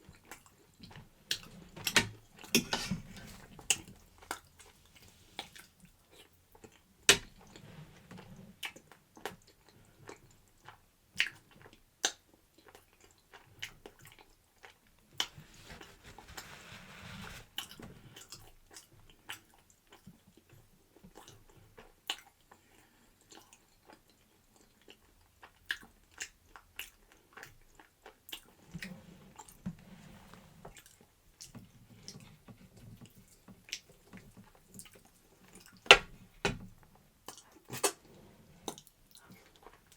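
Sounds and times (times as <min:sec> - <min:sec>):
person chewing food: 0:00.0 - 0:16.5, 0:17.3 - 0:39.9.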